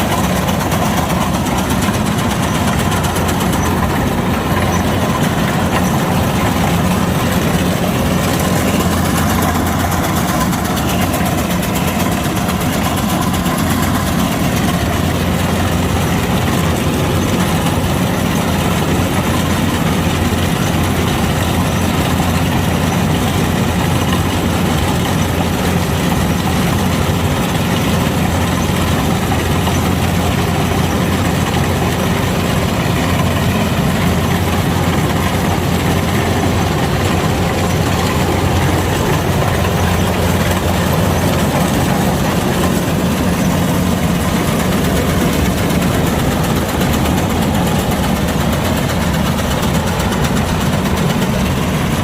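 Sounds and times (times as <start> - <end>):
combine harvester diesel engine: 0.0 - 52.0.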